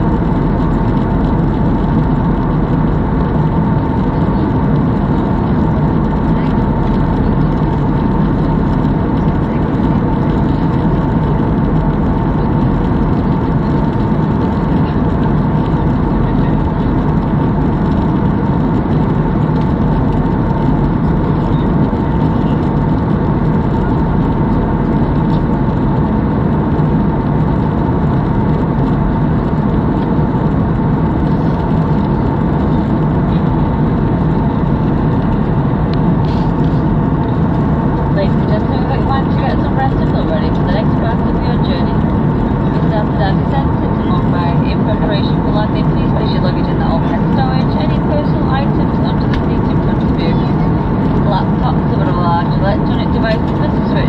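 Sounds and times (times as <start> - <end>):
jet engine and airflow rush: 0.0 - 54.0.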